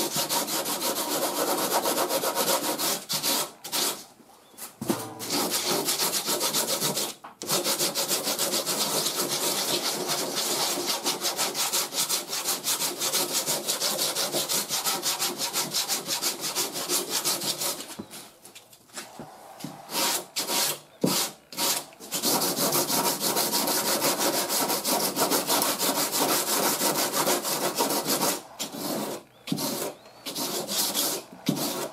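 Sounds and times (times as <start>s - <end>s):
sandpaper scraping filler: 0.0s - 31.9s.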